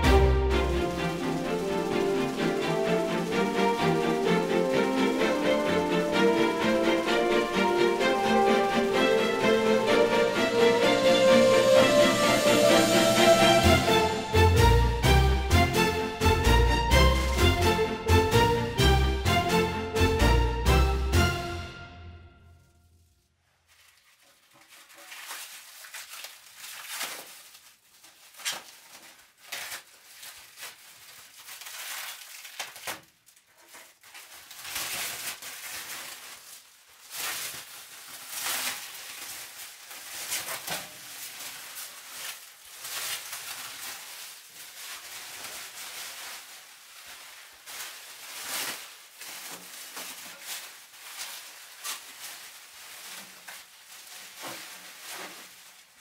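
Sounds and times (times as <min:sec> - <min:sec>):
plastic wrapping crinkling: 0:00.0 - 0:19.3, 0:22.4 - 0:56.0.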